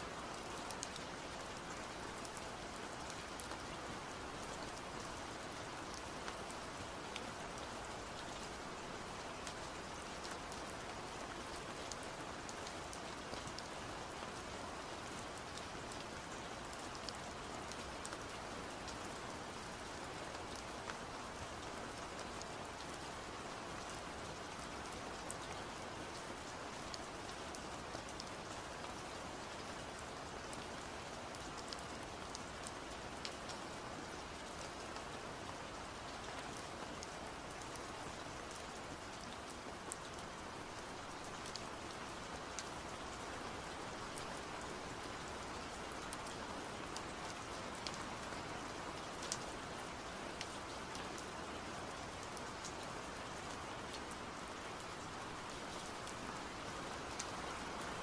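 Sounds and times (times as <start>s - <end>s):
rain-like hiss: 0.0s - 58.0s.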